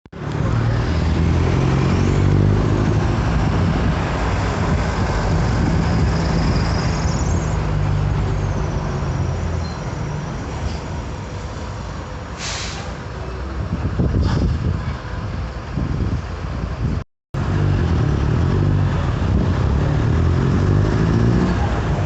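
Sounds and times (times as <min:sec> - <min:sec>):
bus diesel engine running: 0:00.1 - 0:22.0.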